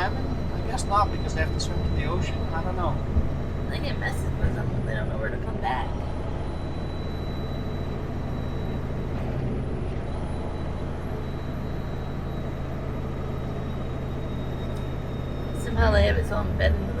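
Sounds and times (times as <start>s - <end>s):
road noise: 0.0s - 17.0s
truck diesel engine running: 0.0s - 17.0s.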